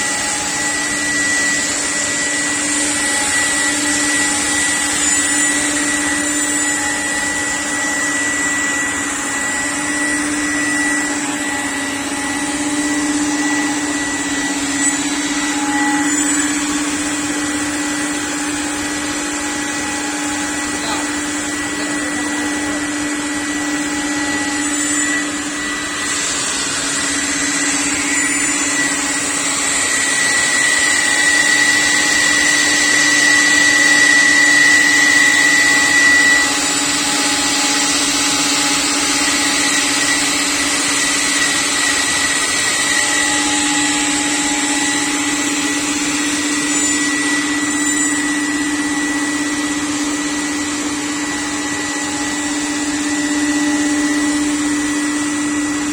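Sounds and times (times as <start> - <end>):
router spindle high whine: 0.0 - 55.9.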